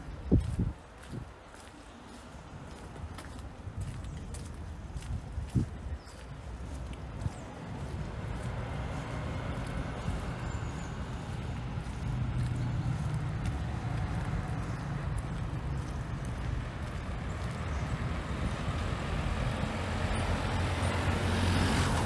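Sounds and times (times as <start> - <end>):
traffic noise: 0.0 - 22.0
vehicle engine rumbling: 2.6 - 22.0.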